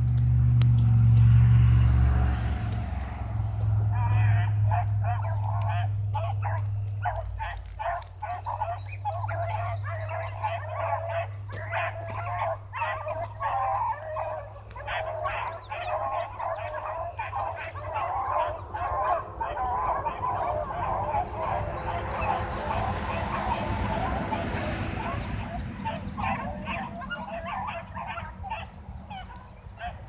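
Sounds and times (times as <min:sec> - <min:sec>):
hounds baying: 0:01.2 - 0:30.0.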